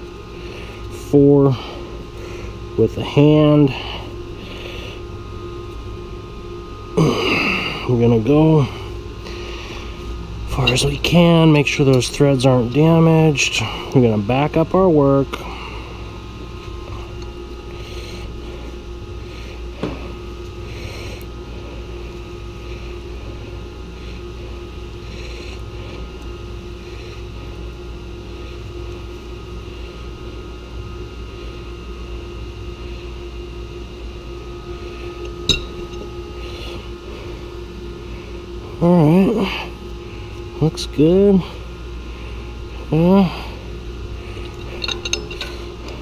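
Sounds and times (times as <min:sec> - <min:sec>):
machinery hum: 0:00.0 - 0:46.0.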